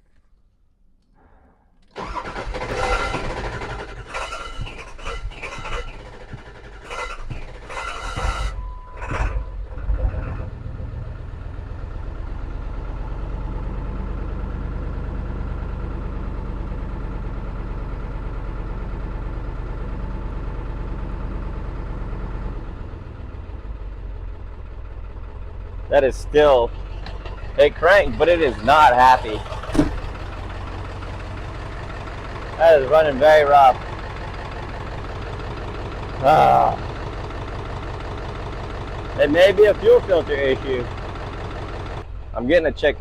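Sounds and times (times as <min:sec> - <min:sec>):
diesel engine cranking: 0:01.8 - 0:43.0
diesel engine idling rough: 0:02.0 - 0:43.0.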